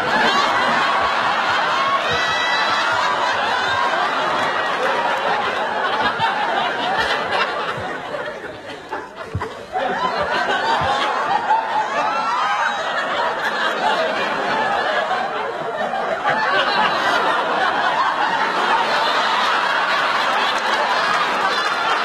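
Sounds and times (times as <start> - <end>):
audience laughing: 0.0 - 22.0.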